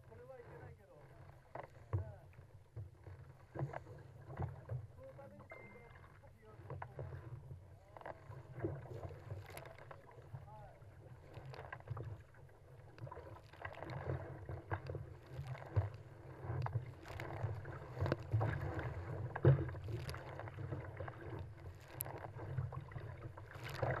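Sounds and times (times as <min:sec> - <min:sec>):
water splashing against kayak hull: 0:00.0 - 0:24.0.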